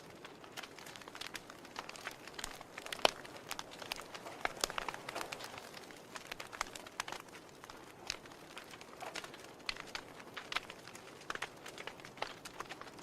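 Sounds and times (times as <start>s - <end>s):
soft steady hiss: 0.0s - 13.0s
wood fire crackling: 0.0s - 13.0s.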